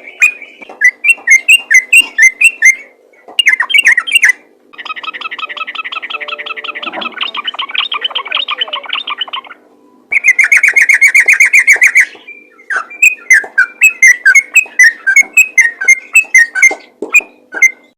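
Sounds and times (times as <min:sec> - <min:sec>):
bulbul chattering song: 0:00.0 - 0:17.9
steady low hum: 0:00.0 - 0:17.9.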